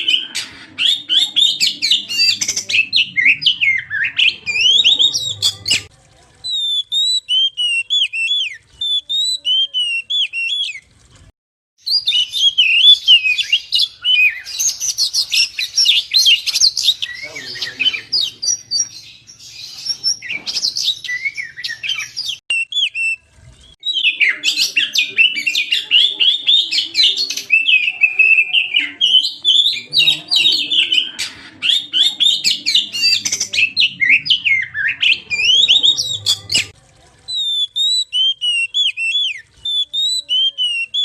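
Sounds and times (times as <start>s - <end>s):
songbird singing: 0.0s - 5.9s, 11.8s - 41.0s.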